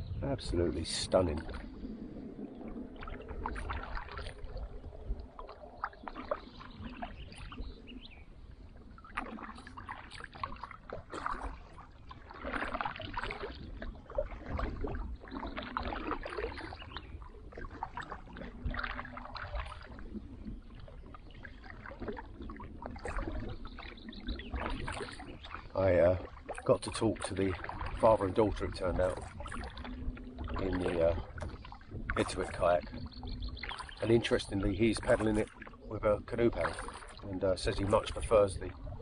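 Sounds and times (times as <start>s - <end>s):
paddle splashing in water: 0.5s - 39.0s.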